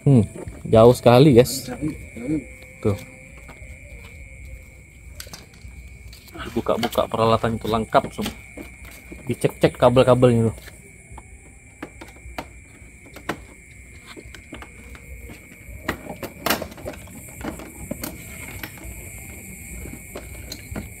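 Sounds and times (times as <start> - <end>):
hand tools clicking and tapping: 1.8 - 9.8, 10.5 - 21.0.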